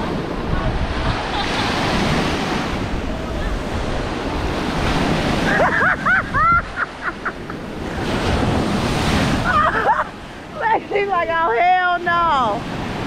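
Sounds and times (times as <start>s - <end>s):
wind on microphone: 0.0s - 11.4s
ocean surf breaking: 0.0s - 13.0s.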